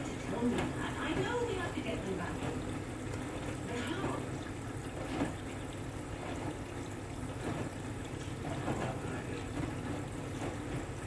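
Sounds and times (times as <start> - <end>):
washing machine hum: 0.0 - 11.0
water sloshing in washing machine: 0.0 - 11.0.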